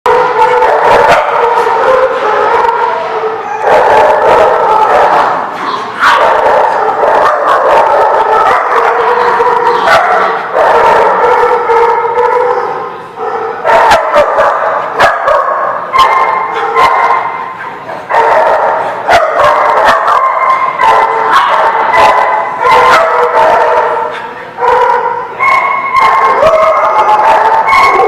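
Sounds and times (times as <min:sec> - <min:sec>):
dogs barking and yipping: 0:00.1 - 0:28.0.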